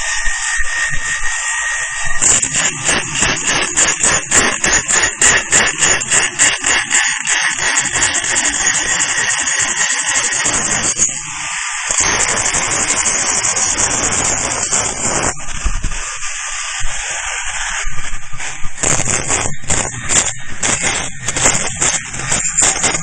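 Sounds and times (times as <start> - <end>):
welding crackling rattle: 0.0 - 23.0.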